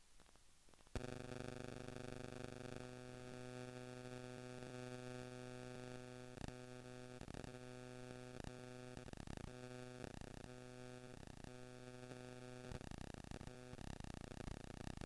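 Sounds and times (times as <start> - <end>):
buzzing electrical hum: 0.0 - 15.0.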